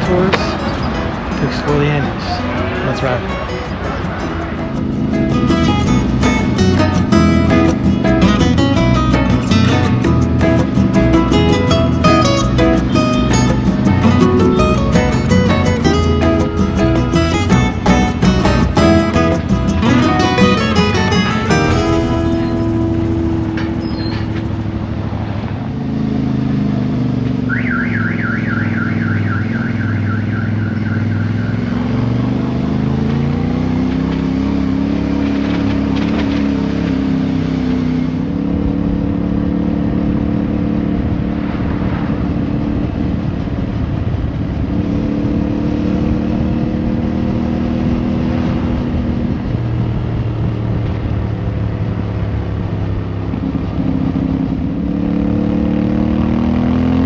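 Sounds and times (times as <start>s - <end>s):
motorcycle engine revving: 3.7s - 43.8s, 44.5s - 57.0s.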